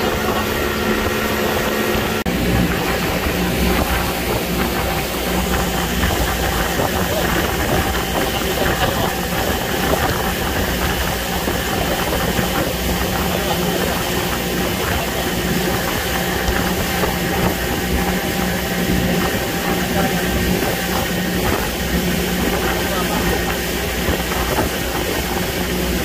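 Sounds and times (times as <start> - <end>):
motorboat engine running: 0.0 - 26.0
rush of wind and water: 0.0 - 26.0.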